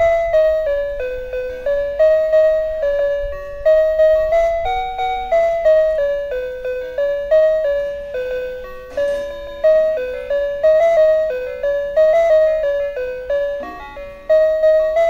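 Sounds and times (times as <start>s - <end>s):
simple melody of short notes: 0.0s - 15.0s.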